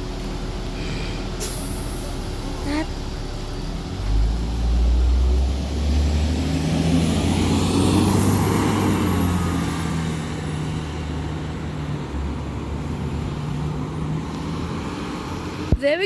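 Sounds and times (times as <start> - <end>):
bus engine driving past: 0.0 - 15.7
road noise: 0.0 - 16.0.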